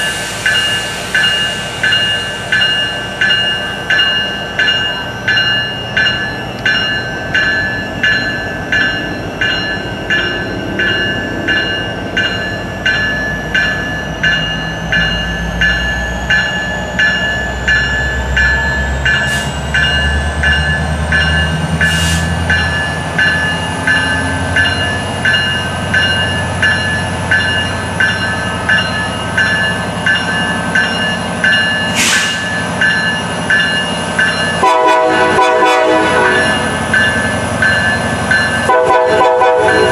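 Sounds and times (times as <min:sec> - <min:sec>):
diesel freight train rumble: 0:00.0 - 0:39.9
bell ringing: 0:00.5 - 0:34.7, 0:36.3 - 0:38.8.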